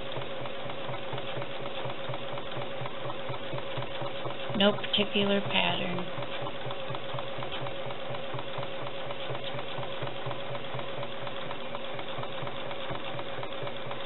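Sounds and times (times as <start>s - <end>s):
sewing machine motor whine: 0.0s - 14.0s
sewing machine stitching: 0.0s - 14.0s.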